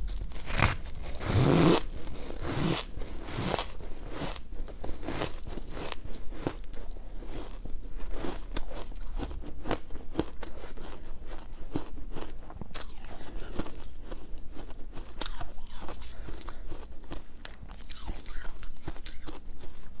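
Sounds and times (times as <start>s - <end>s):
ice being chewed: 0.1s - 20.0s.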